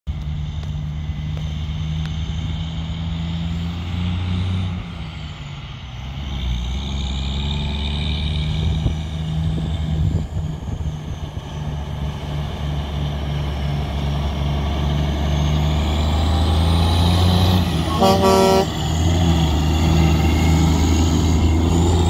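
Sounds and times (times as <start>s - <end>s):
diesel truck engine under load: 0.1s - 22.0s.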